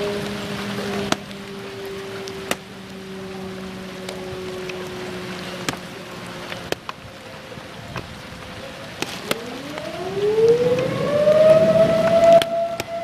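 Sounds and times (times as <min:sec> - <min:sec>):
steady rain hiss: 0:00.0 - 0:13.0
tornado warning siren: 0:00.0 - 0:13.0.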